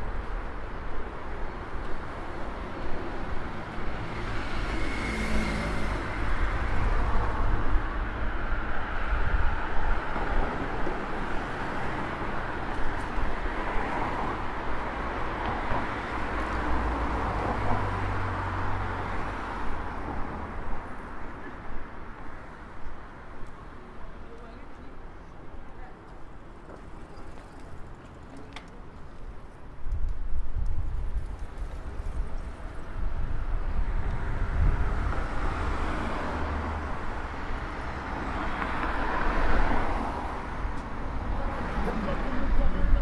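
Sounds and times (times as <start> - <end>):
cars passing: 0.0 - 29.8, 30.5 - 43.0.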